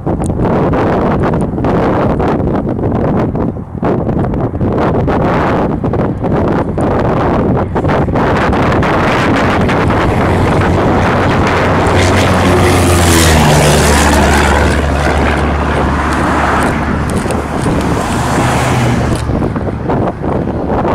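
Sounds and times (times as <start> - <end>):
propeller airplane engine drone: 0.0 - 20.9.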